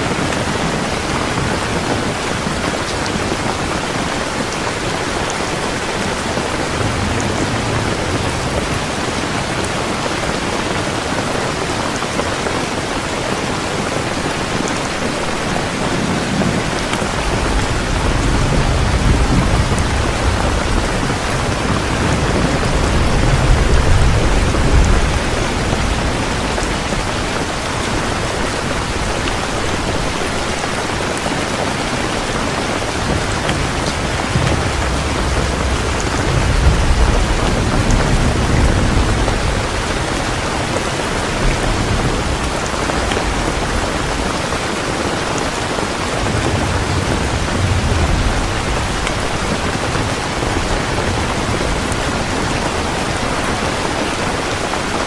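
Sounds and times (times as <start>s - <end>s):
low rumble of thunder: 0.0s - 12.2s, 14.4s - 54.5s
heavy rain pouring: 0.0s - 55.0s.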